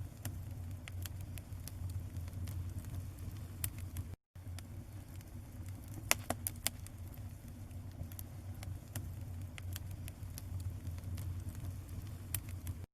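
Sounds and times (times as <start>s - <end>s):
low rumble: 0.0s - 12.9s
paper fire crackling and popping: 0.0s - 12.9s.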